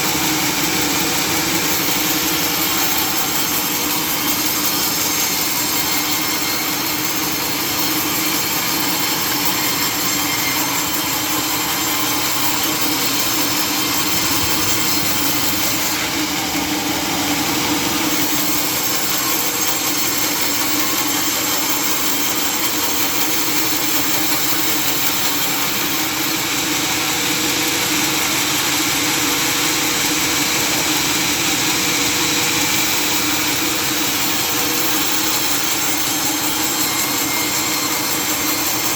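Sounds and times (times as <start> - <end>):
sawmill saw cutting log: 0.0 - 38.9.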